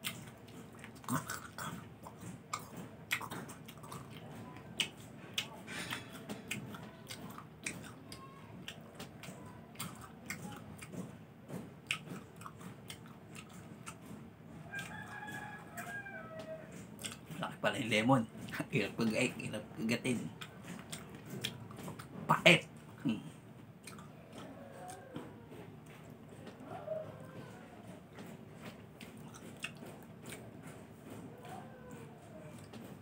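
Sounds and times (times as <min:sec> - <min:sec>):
person chewing wet crunching: 0:00.0 - 0:33.0.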